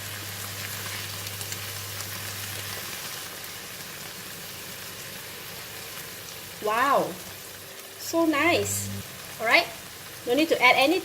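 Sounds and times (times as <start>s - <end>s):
stir-fry sizzling in a pan: 0.0s - 11.0s.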